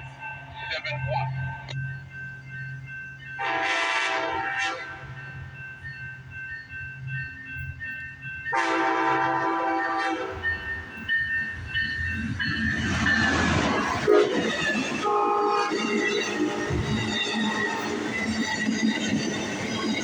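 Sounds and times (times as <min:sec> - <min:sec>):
locomotive multi-chime horn: 0:00.0 - 0:20.0
train passing with wheel noise: 0:00.0 - 0:20.0.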